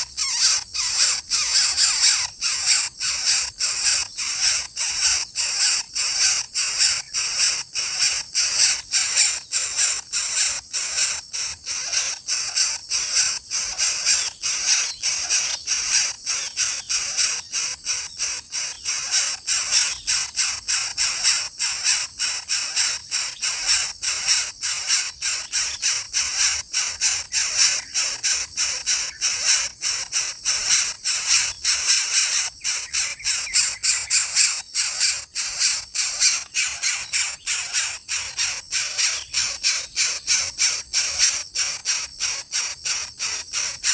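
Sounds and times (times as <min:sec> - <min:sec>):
bird chick hissing rasps: 0:00.0 - 0:43.9.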